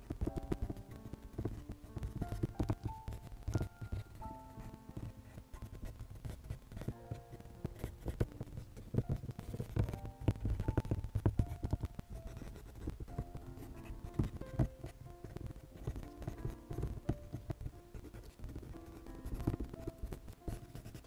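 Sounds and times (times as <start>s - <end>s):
background music with held notes: 0.0s - 21.0s
pencil scratching across paper: 0.0s - 21.0s.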